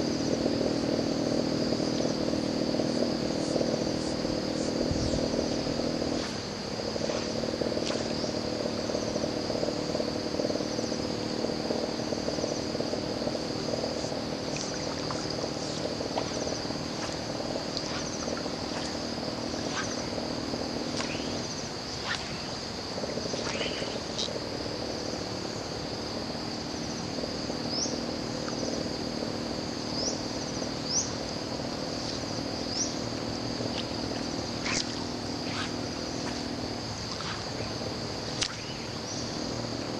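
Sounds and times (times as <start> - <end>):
high insect trill: 0.0 - 39.9
low droning frog chorus: 0.0 - 39.9.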